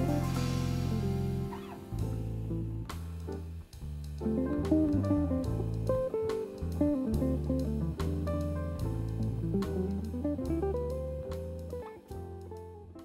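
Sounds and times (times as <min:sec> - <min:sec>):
plucked guitar: 0:00.0 - 0:03.4, 0:04.2 - 0:13.0
steady bass line: 0:00.0 - 0:13.0.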